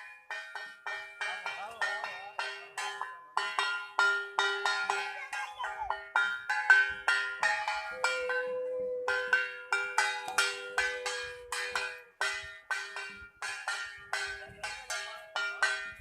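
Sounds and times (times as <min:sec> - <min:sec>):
hand bells ringing: 0:00.0 - 0:16.0.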